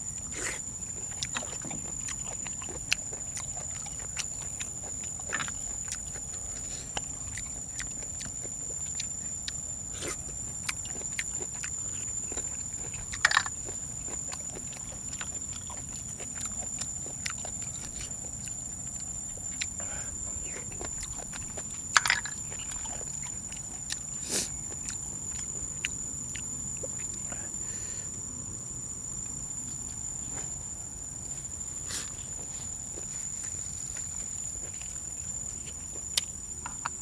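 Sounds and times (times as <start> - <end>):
chewing and crunching: 0.0 - 37.0.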